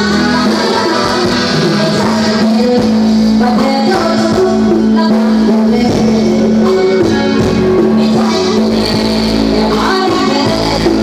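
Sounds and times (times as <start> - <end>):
live band music over loudspeakers: 0.0 - 11.0.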